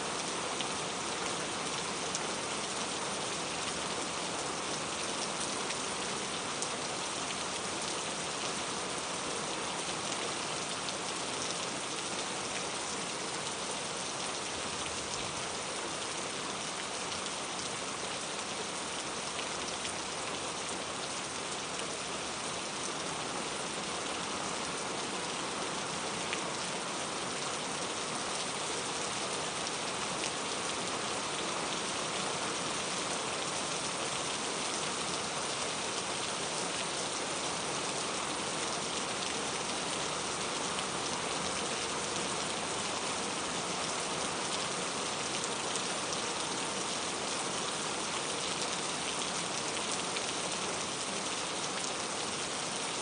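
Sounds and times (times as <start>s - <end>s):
rain on hard surfaces: 0.0s - 53.0s.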